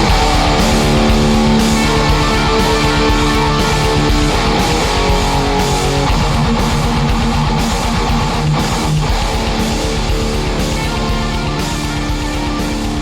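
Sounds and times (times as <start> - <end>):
electric guitars playing chords: 0.0 - 13.0
fast driving low-end rhythm: 0.0 - 13.0.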